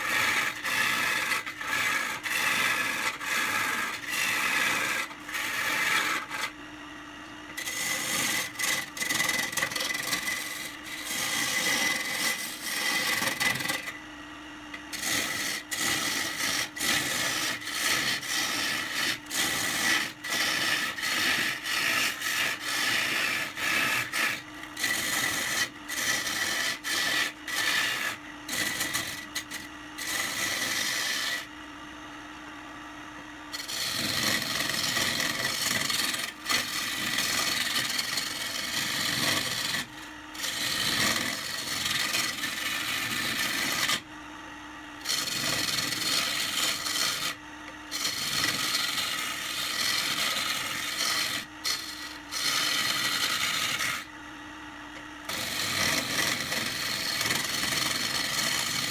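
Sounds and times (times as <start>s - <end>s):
tool scraping spinning wood: 0.0s - 6.7s, 7.5s - 14.0s, 14.6s - 31.6s, 33.5s - 44.1s, 45.0s - 54.2s, 55.0s - 58.9s.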